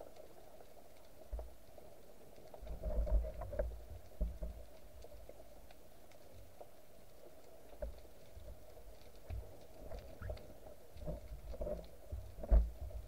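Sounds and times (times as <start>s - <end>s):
faint clicks: 0.0s - 13.0s.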